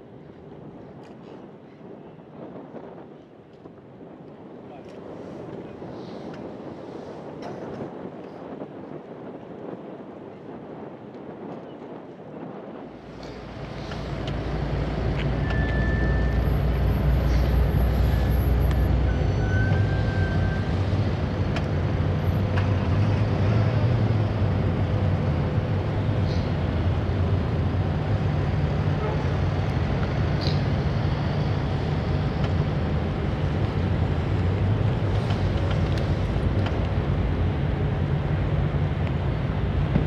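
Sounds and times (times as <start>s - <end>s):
ship engine rumble: 4.4s - 40.0s.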